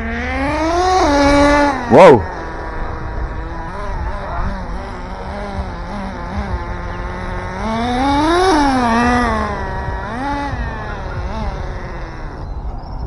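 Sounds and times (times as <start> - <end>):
electric motor whining: 0.0 - 13.0
low rough rumble: 0.0 - 13.0.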